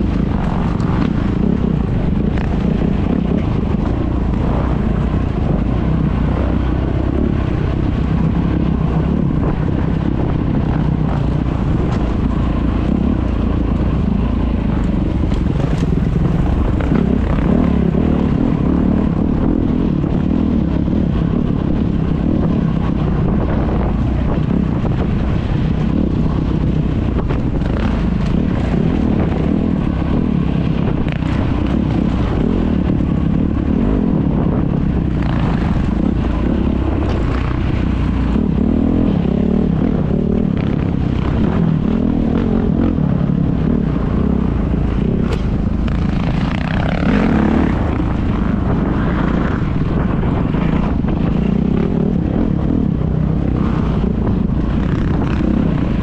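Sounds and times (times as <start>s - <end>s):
dirt bike engine running: 0.0s - 56.0s
wind buffeting microphone: 0.0s - 56.0s.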